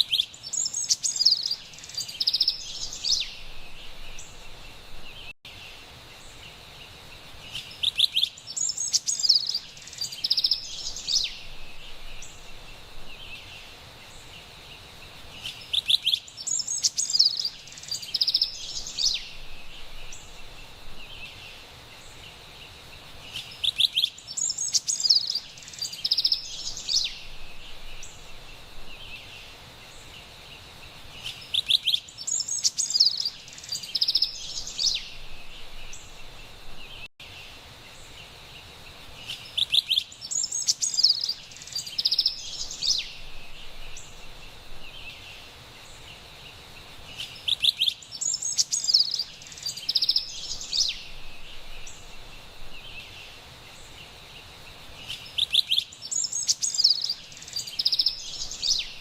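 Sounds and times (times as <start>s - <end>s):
wren singing: 0.0s - 5.3s, 7.4s - 38.4s, 39.2s - 59.0s
faint high forest hiss: 0.0s - 59.0s.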